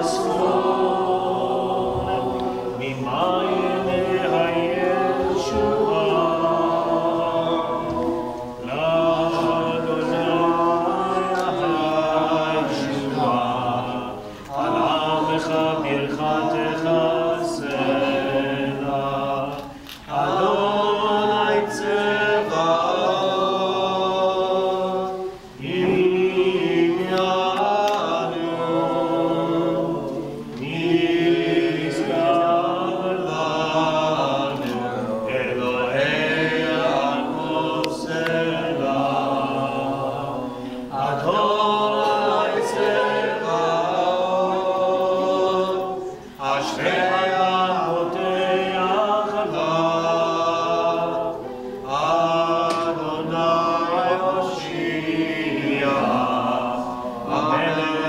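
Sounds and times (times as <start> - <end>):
group singing without instruments: 0.0 - 58.0.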